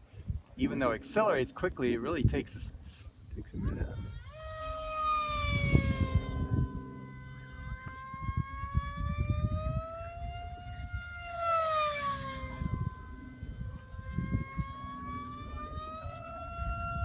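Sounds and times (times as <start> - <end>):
model plane engine whine: 0.0 - 17.0
low rumble: 0.5 - 17.0.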